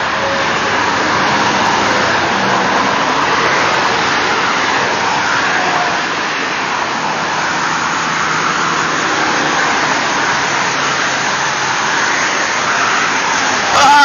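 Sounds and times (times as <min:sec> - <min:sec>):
freeway traffic: 0:00.0 - 0:14.0.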